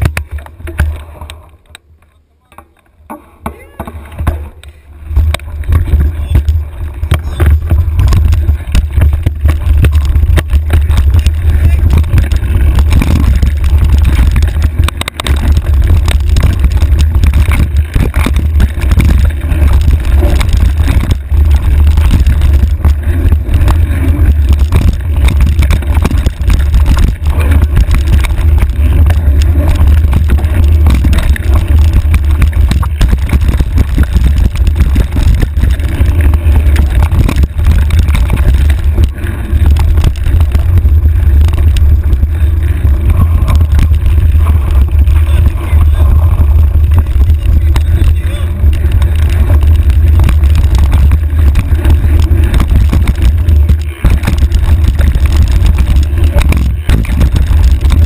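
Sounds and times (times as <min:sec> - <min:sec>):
bike knocks and rattles: 0:00.0 - 0:01.5, 0:02.4 - 0:58.0
wind buffeting microphone: 0:05.0 - 0:58.0.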